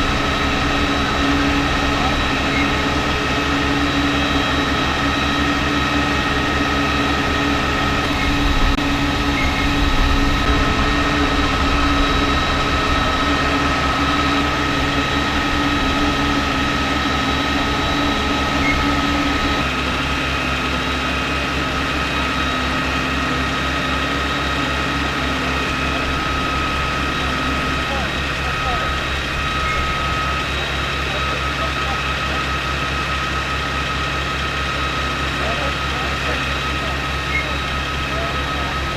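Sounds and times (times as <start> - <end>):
low hum: 0.0 - 31.9
heavy engine running: 0.0 - 38.9
high whine: 0.0 - 38.9.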